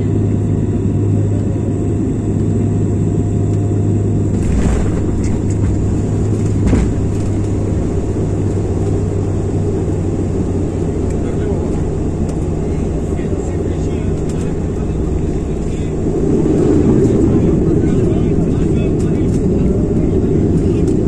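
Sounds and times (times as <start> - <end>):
propeller drone: 0.0 - 21.0
wheels rumbling on runway: 0.0 - 21.0.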